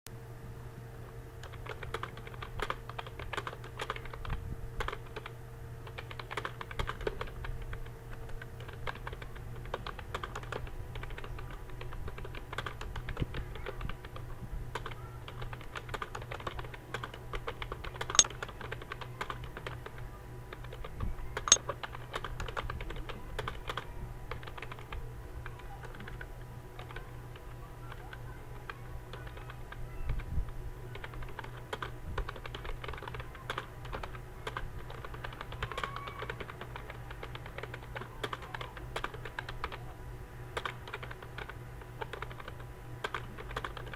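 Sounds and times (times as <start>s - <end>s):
steady low hum: 0.1s - 43.9s
keyboard typing clicks: 1.4s - 24.9s, 25.5s - 27.1s, 30.9s - 39.8s, 40.6s - 43.9s.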